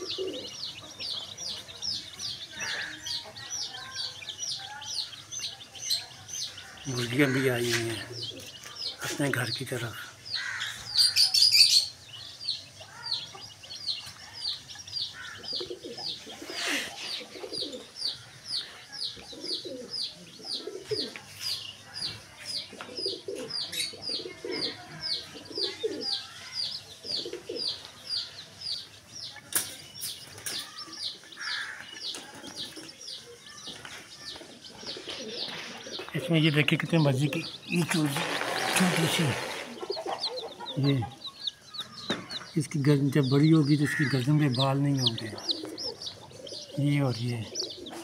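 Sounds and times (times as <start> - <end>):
pigeons cooing: 0.0 - 12.0, 15.0 - 28.9, 34.2 - 42.6, 43.8 - 48.0
chicks peeping: 0.0 - 48.0.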